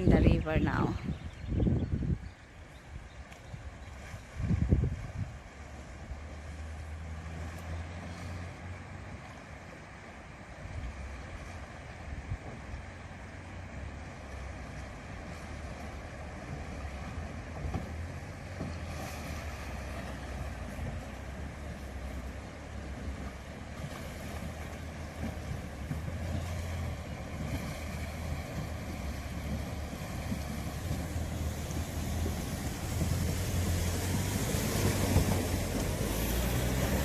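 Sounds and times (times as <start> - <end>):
wind on microphone: 0.0 - 7.0, 10.6 - 13.0, 14.7 - 37.0
water splashing: 2.6 - 37.0
vehicle engine humming: 5.0 - 37.0.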